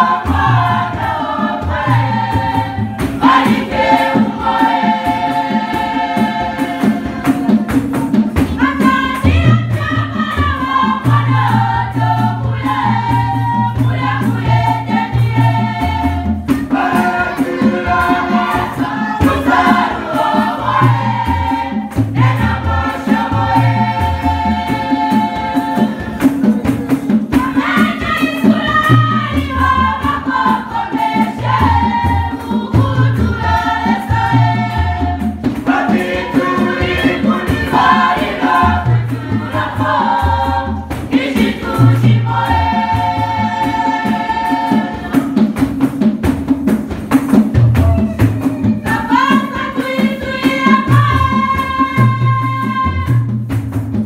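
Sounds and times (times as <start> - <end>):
women's choir singing: 0.0 - 45.6, 48.8 - 53.3
steady beat: 0.0 - 52.3.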